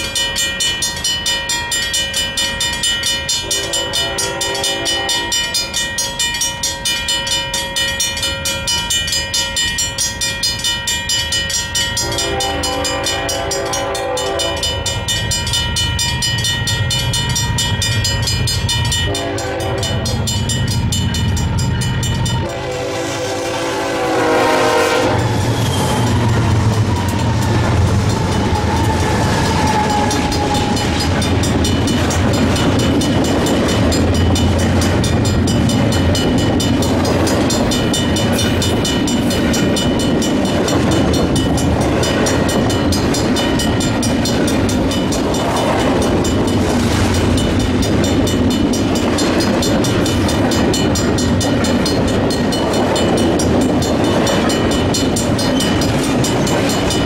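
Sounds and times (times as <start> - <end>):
crossing bells ringing: 0.0 - 57.0
diesel locomotive hum: 0.0 - 57.0
train wheels on rails: 0.0 - 57.0.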